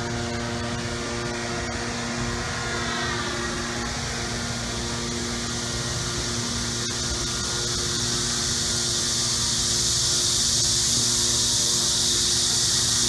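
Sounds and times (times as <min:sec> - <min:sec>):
high outdoor hiss: 0:00.0 - 0:13.0.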